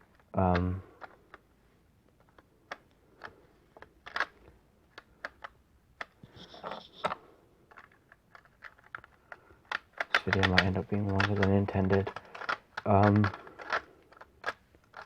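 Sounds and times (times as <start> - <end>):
plastic bricks clicking: 2.1 - 15.0.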